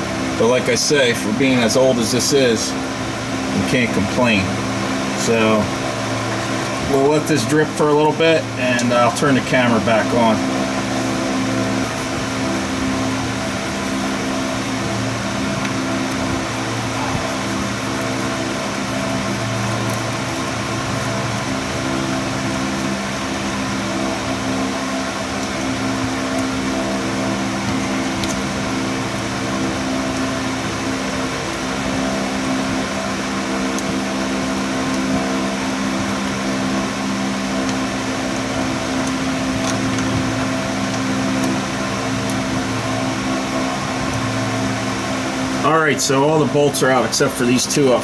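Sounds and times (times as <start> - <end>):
steady machine hum: 0.0 - 48.0.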